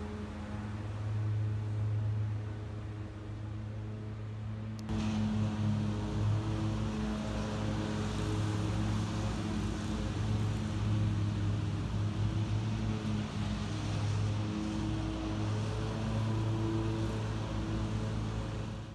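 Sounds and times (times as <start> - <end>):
motor running steadily: 0.0 - 18.9.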